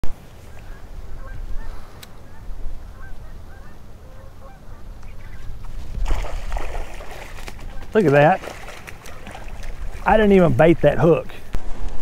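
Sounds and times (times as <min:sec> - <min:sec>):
birds calling: 0:00.4 - 0:11.5.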